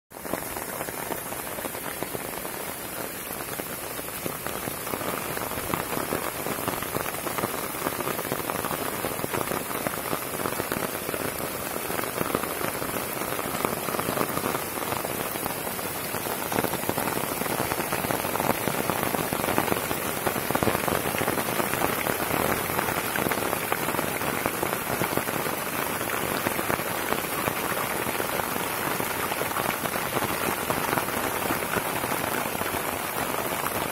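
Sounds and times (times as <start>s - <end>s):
rain on ground and foliage: 0.1s - 33.9s.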